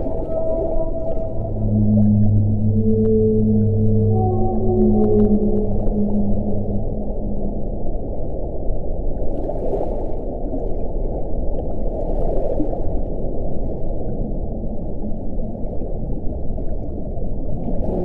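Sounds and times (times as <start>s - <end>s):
deep muffled wind: 0.0s - 18.0s.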